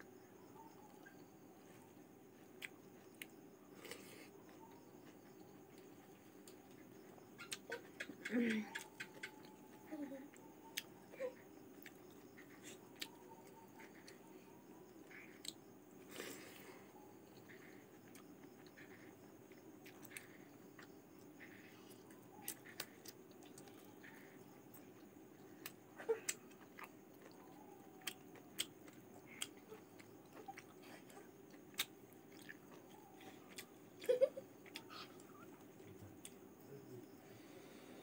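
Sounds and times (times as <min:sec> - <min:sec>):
close-up chewing: 0:01.6 - 0:36.6.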